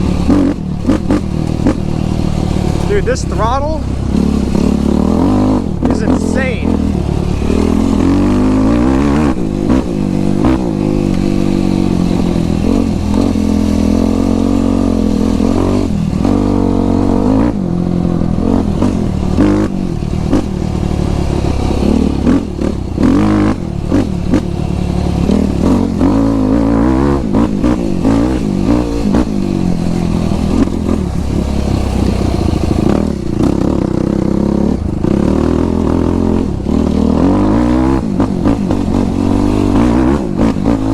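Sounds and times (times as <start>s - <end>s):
quad engine revving: 0.0s - 40.9s.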